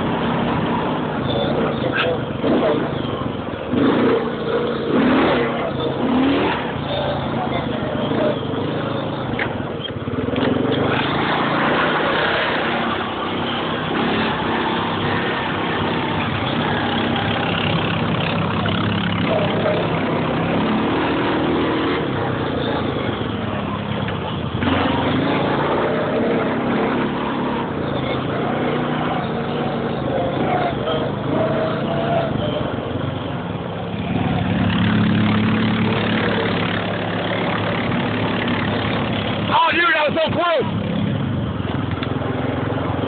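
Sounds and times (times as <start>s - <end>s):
quad bike engine running: 0.0s - 39.6s.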